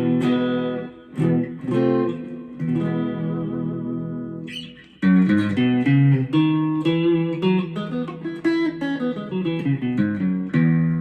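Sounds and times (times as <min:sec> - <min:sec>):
clean electric guitar: 0:00.0 - 0:11.0.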